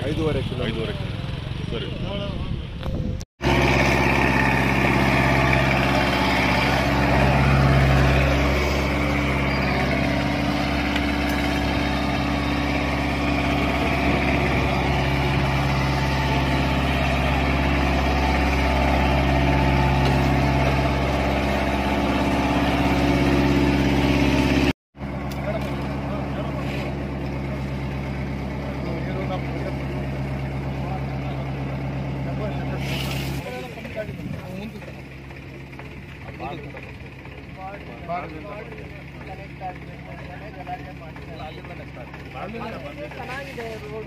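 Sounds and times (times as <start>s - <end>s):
road roller diesel engine running: 0.0s - 44.0s.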